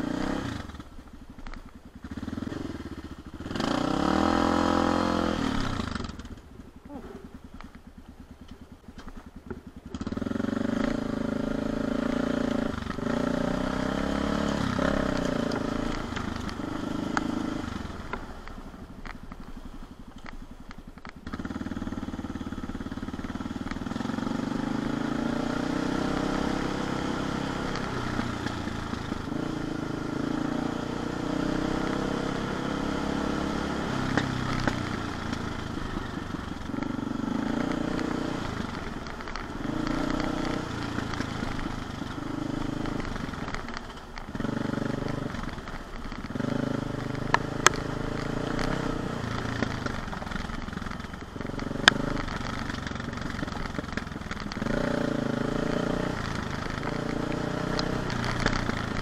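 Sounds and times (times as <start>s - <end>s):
motorcycle engine at low speed: 0.0s - 59.0s.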